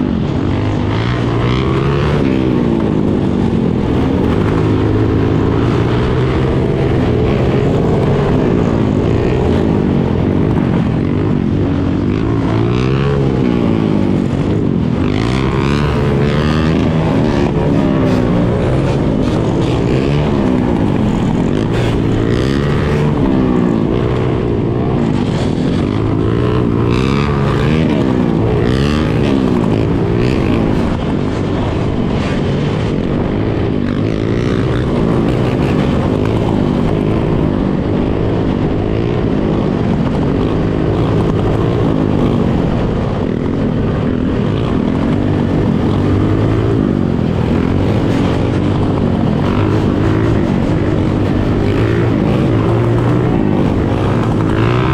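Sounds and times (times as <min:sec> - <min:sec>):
dirt bikes revving: 0:00.0 - 0:54.9.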